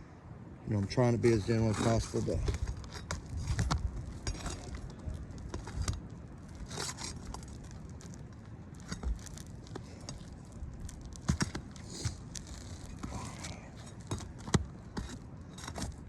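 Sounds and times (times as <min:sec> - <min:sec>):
roof shingles scraping and crackling: 0:00.7 - 0:16.0.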